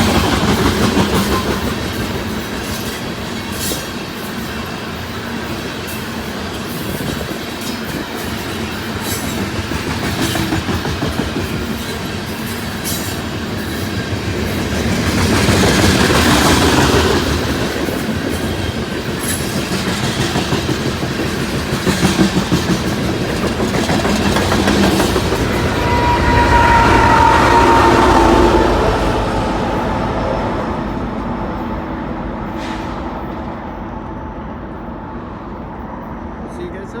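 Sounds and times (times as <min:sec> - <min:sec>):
freight train wheels clattering: 0:00.0 - 0:33.9
train wheel squeal: 0:00.0 - 0:34.2.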